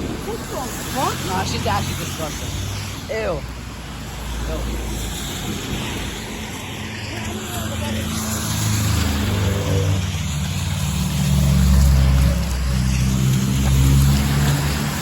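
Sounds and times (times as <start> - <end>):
vehicles passing on wet road: 0.0 - 15.0.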